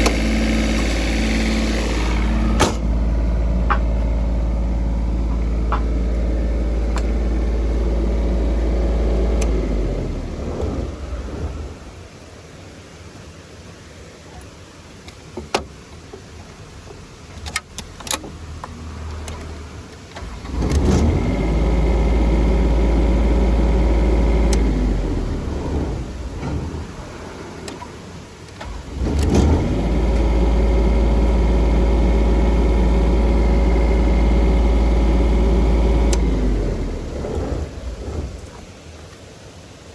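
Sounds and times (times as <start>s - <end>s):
diesel generator engine running: 0.0s - 12.3s, 16.6s - 39.1s.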